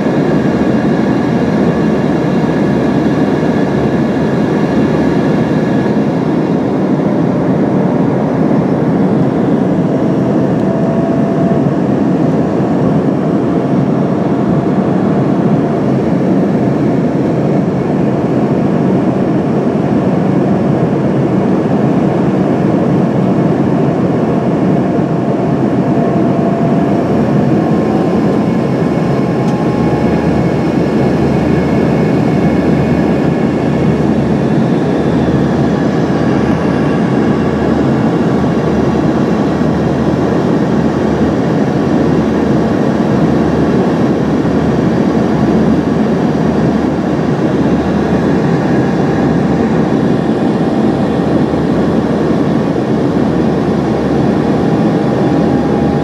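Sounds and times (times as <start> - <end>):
airflow rush in jet cabin: 0.0 - 56.0
jet engines humming: 0.0 - 56.0
whining engine tones: 0.0 - 56.0.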